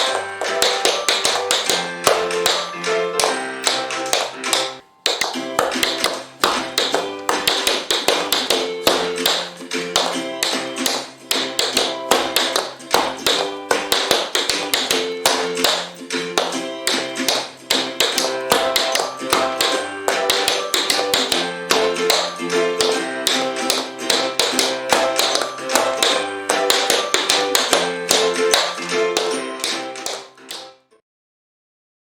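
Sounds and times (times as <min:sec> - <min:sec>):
background guitar music: 0:00.0 - 0:30.7
tap shoes striking floor: 0:00.0 - 0:30.8.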